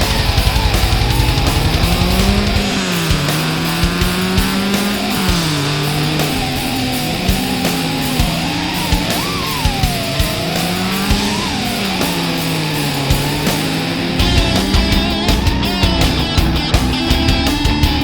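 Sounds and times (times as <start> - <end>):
electric guitar: 0.0 - 18.0
heavy rock music: 0.0 - 18.0
steady drum beat: 0.0 - 18.0.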